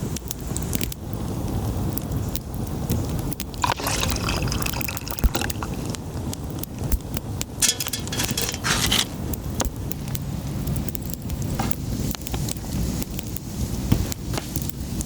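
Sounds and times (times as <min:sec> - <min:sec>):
campfire crackling: 0:00.2 - 0:15.0.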